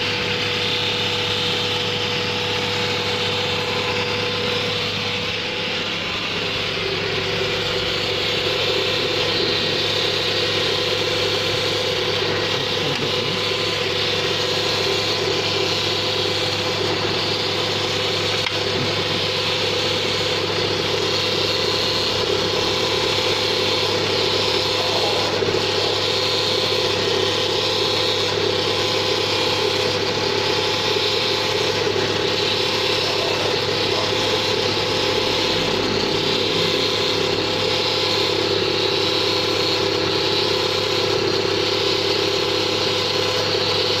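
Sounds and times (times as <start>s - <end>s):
mechanical noise: 0.0s - 43.8s
car engine running: 0.0s - 44.0s.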